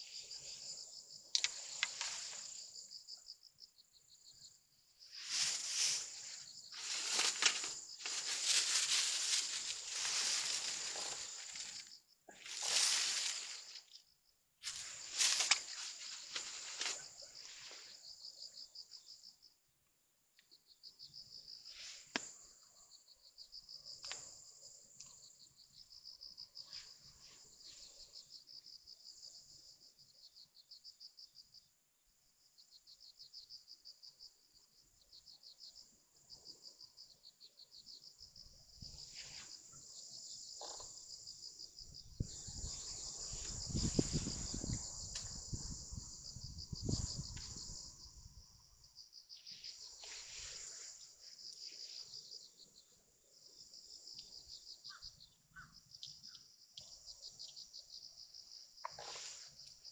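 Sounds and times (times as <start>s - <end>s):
insects chirping in trills: 0.0s - 59.9s.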